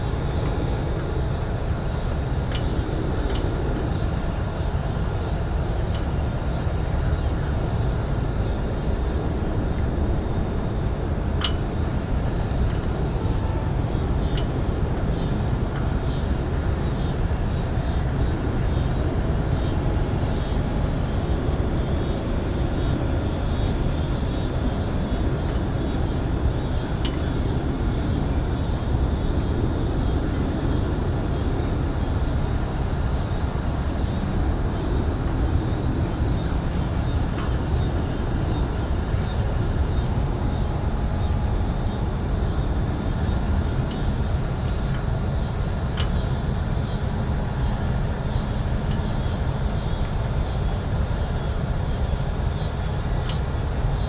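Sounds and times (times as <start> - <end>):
low rumble of city traffic: 0.0 - 54.0.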